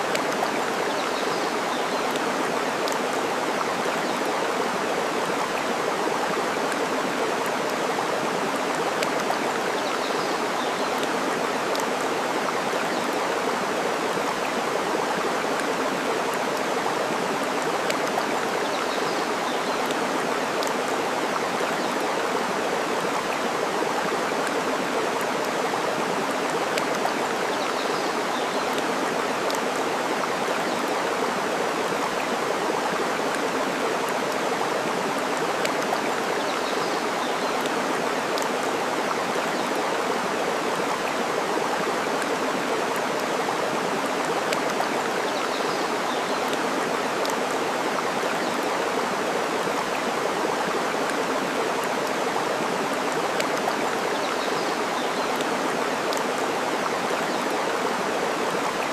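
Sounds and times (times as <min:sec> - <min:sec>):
flowing water: 0:00.0 - 0:58.9.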